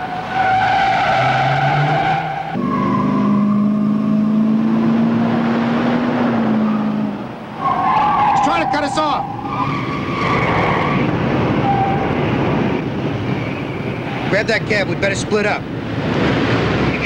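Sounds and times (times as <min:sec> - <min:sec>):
car engines running hard: 0:00.0 - 0:17.0
tires squealing: 0:00.0 - 0:17.0.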